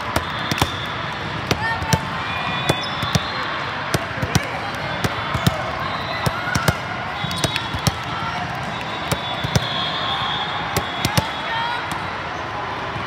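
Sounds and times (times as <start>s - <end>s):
volleyballs being hit: 0.0s - 10.0s, 10.6s - 12.0s
crowd chatter: 0.0s - 13.0s.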